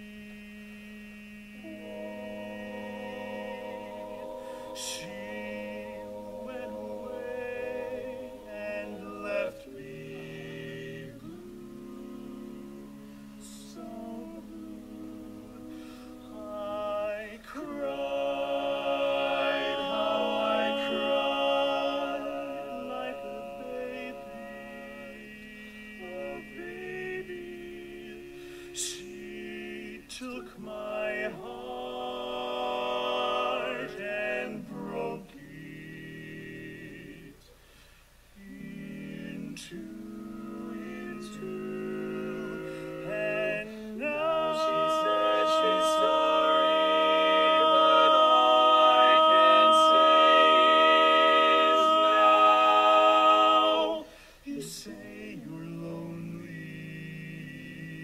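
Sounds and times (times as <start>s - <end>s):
a cappella quartet singing: 0.0s - 58.0s.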